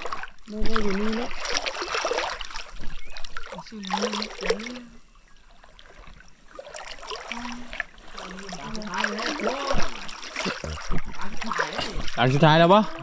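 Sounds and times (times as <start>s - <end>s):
creek water splashing around legs: 0.0s - 13.0s.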